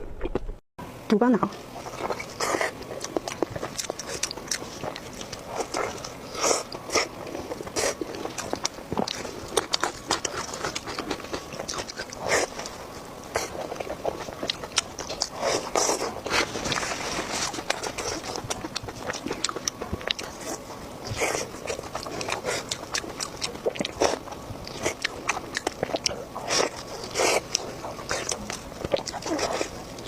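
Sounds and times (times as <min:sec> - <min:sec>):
biting and chewing food: 0:01.6 - 0:30.0.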